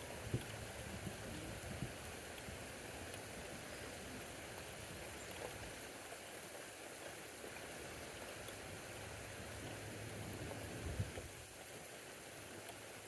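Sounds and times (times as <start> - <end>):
faint drip ticks: 0.0 - 8.7, 9.6 - 13.0
steady rain hiss: 0.0 - 13.0.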